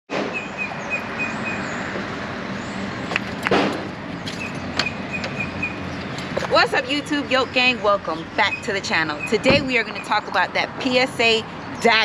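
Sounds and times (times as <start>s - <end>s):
road traffic noise: 0.1s - 12.0s.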